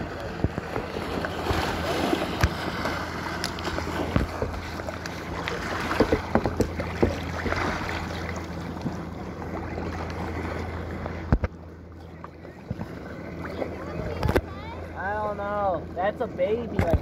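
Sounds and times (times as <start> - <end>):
water slapping against kayak hull: 0.0 - 11.6, 12.2 - 14.6, 16.7 - 17.0
steady low hum: 0.0 - 17.0.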